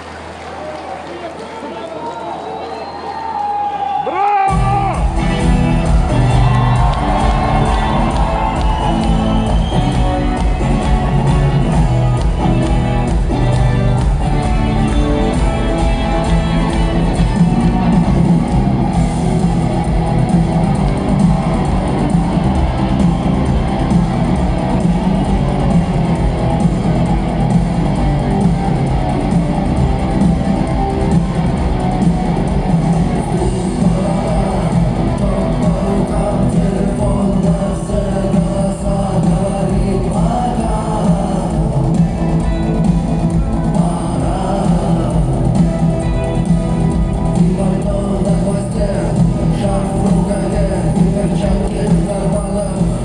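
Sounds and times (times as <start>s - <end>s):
live rock band playing: 4.5s - 53.0s.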